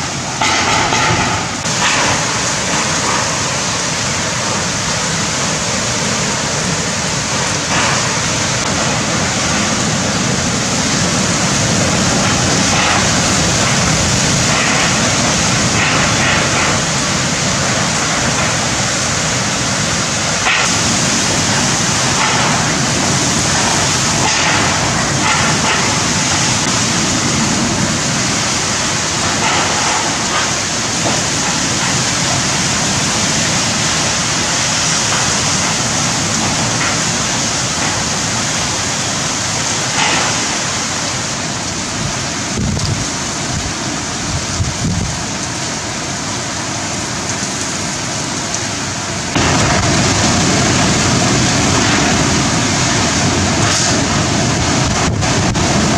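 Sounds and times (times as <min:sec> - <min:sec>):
low gusty wind rumbles: 0:00.0 - 0:55.9
wind-driven heavy rain: 0:00.0 - 0:55.9.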